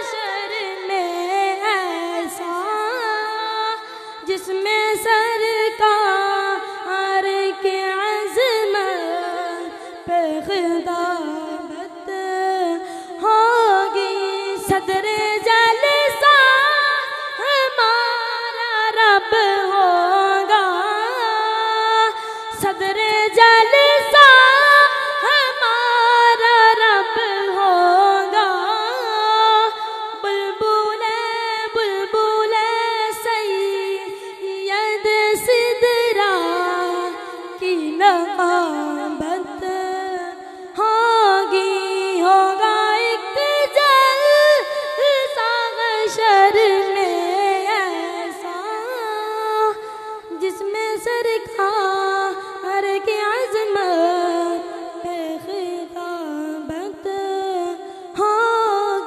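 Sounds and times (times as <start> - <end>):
boy singing unaccompanied: 0.0 - 12.8, 13.4 - 40.2, 40.8 - 49.5, 50.3 - 59.0.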